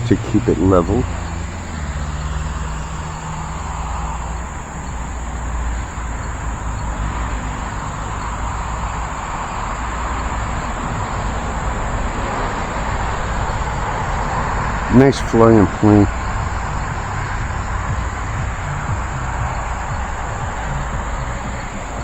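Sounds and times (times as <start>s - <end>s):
crickets chirring: 0.0s - 22.0s
wind rumbling on microphone: 0.0s - 22.0s.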